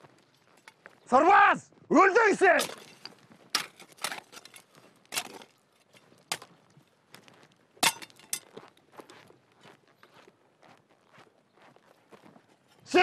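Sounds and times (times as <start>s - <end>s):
boot footsteps on stony ground: 0.0s - 13.0s.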